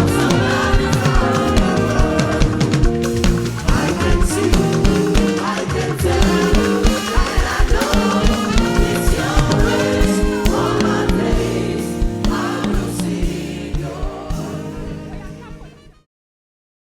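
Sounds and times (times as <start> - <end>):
steady drum beat: 0.0 - 15.8
choir singing: 0.0 - 15.9
band playing: 0.0 - 16.1.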